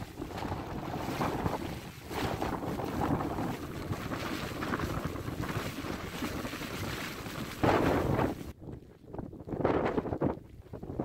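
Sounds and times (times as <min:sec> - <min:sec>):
gusty wind on microphone: 0:00.0 - 0:11.0.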